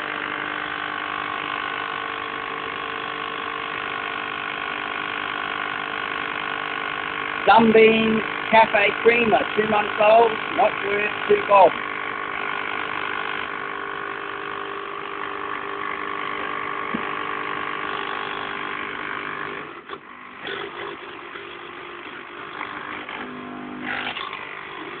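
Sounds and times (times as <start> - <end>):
espresso machine pump buzzing: 0.0 - 25.0.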